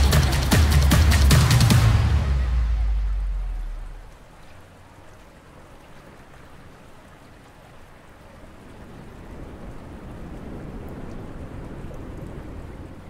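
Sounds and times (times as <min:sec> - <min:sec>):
steady rain-like hiss: 0:00.0 - 0:13.0.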